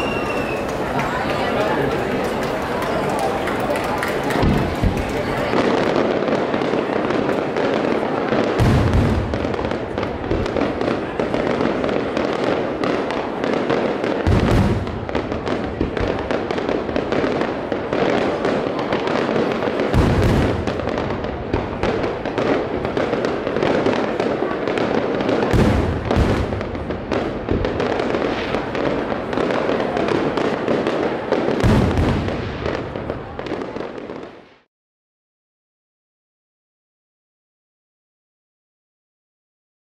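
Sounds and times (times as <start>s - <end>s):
deep fireworks boom: 0.0s - 34.7s
fireworks bangs and crackling: 0.0s - 34.7s.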